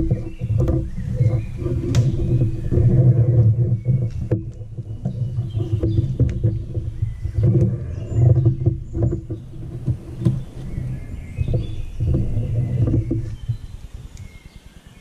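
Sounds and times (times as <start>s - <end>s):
small clicks and rustles: 0.0s - 14.3s.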